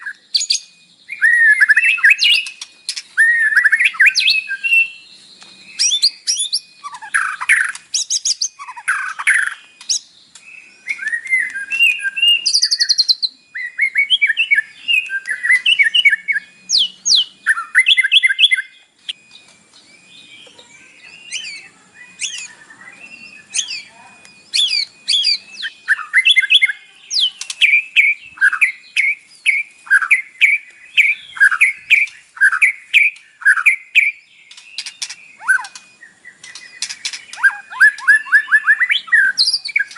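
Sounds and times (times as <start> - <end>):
songbird singing whistles and chatter: 0.0 - 39.9.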